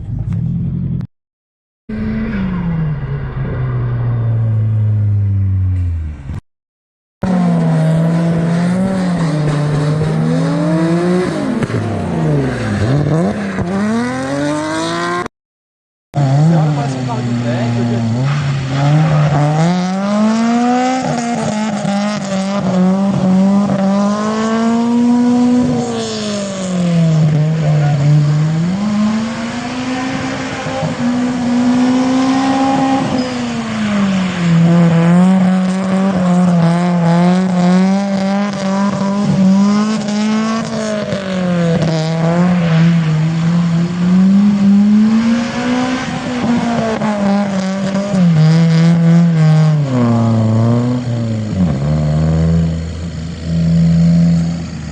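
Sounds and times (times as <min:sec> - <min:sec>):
car engine revving high: 0:07.2 - 0:15.3, 0:16.2 - 0:54.9.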